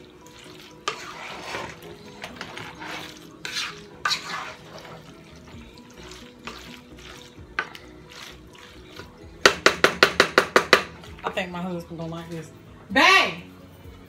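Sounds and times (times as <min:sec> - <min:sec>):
wooden spoon stirring thick food: 0:00.0 - 0:11.3.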